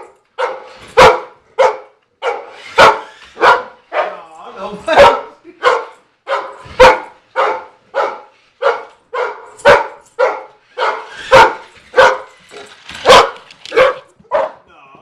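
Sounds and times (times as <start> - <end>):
dog barking: 0.0 - 4.3, 4.9 - 14.7.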